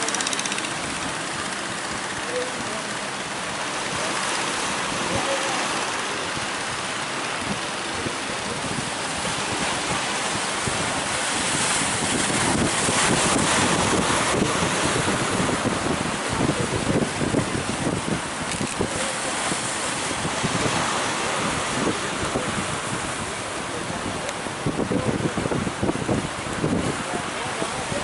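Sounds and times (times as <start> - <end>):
surf rushing: 0.0 - 28.0
wind buffeting microphone: 0.0 - 28.0.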